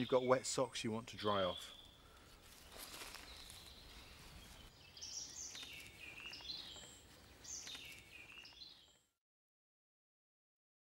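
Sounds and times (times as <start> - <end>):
faint birdsong: 0.0 - 9.2.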